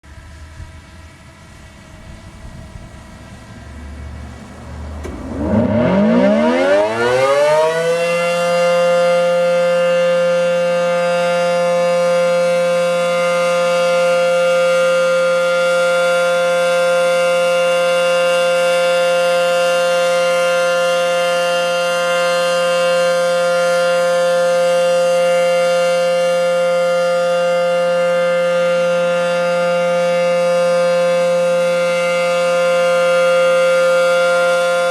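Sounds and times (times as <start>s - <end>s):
warning siren winding up: 4.1s - 34.9s.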